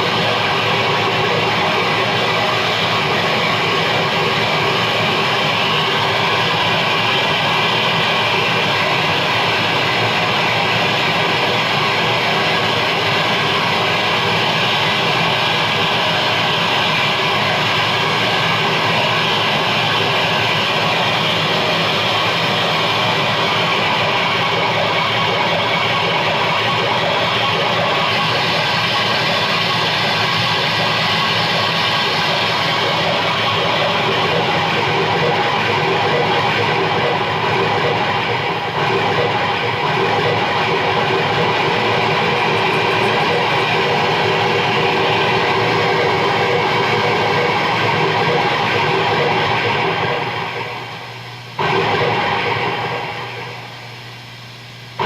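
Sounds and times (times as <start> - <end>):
distorted keyboard drone: 0.0 - 55.0.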